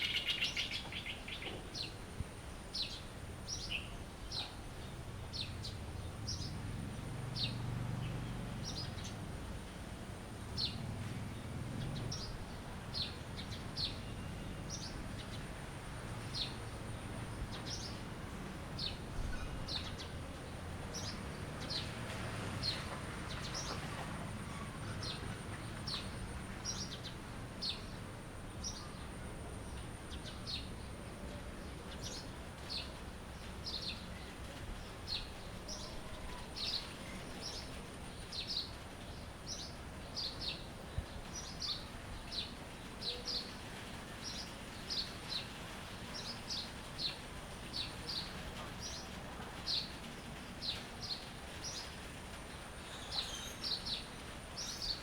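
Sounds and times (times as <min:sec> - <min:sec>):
songbird chirping: 0:00.0 - 0:09.7, 0:10.5 - 0:55.0.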